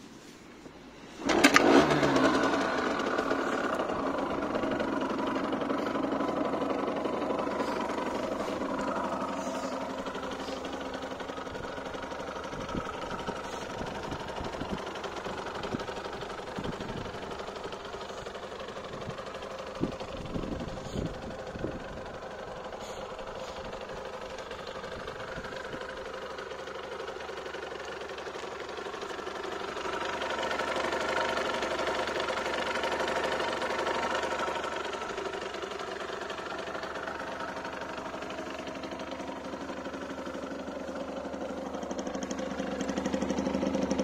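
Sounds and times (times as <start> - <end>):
engine idling: 0.0 - 44.0
motorbike engine kick-started: 1.0 - 44.0.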